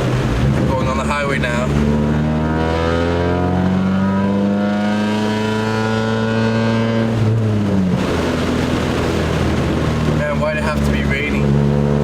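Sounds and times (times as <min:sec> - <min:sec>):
car engine and exhaust droning: 0:00.0 - 0:12.0.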